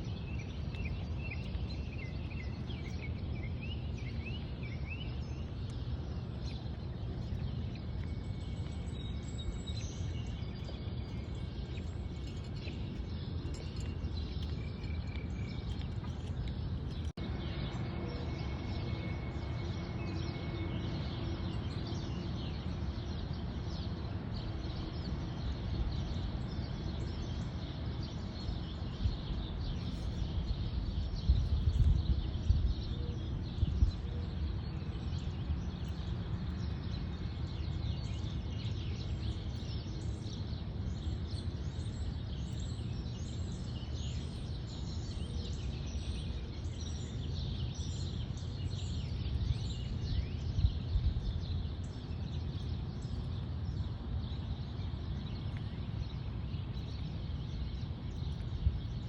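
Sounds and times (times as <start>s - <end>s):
birds chirping: 0.0s - 59.0s
low steady rumble: 0.0s - 59.0s.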